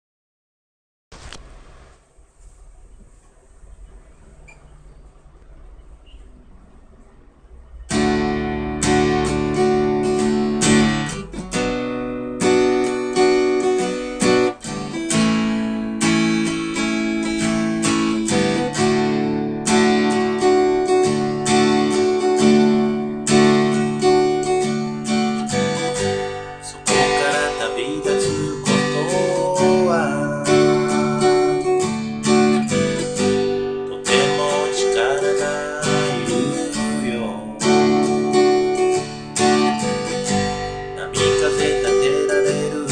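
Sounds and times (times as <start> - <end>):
acoustic guitar strumming chords: 7.7 - 42.9.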